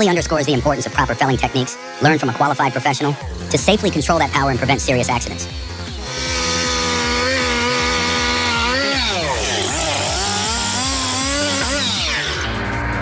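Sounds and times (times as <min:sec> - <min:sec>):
chainsaw cutting: 0:00.0 - 0:13.0.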